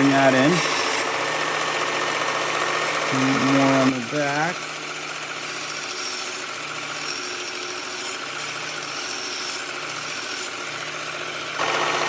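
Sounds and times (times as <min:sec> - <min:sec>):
belt grinder grinding steel: 0:00.0 - 0:12.0.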